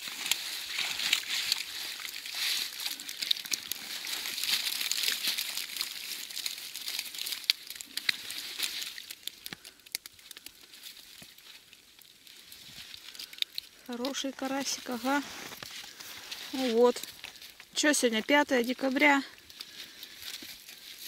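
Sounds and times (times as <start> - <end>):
nets rustling and crackling: 0.0 - 21.0.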